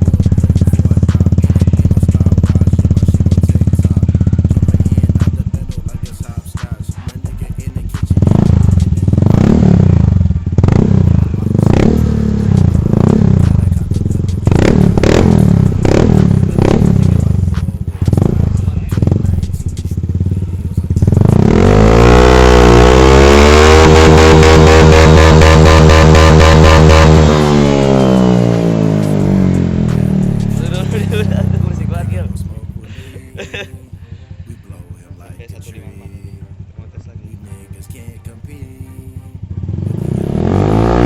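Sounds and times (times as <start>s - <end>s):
scooter engine revving: 0.0s - 41.0s.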